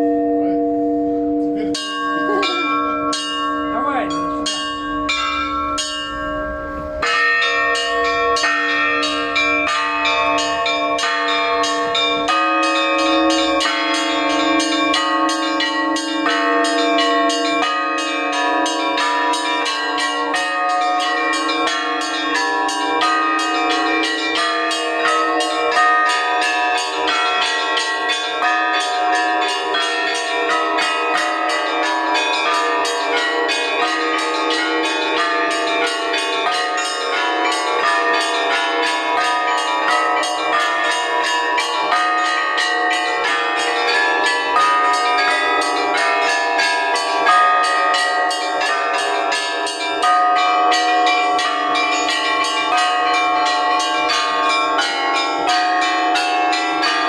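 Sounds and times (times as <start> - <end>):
church bells pealing: 0.0 - 57.0.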